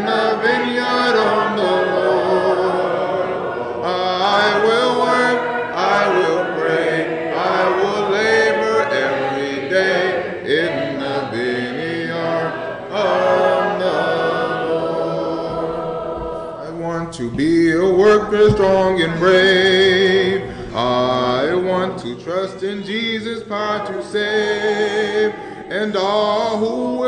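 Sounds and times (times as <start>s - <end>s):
congregation singing a hymn: 0.0s - 27.0s.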